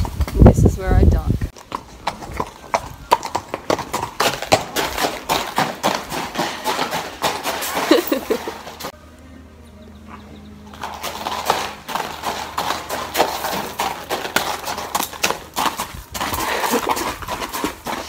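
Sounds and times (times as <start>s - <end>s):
horse hooves clopping on pavement: 0.0s - 9.0s, 10.0s - 18.0s.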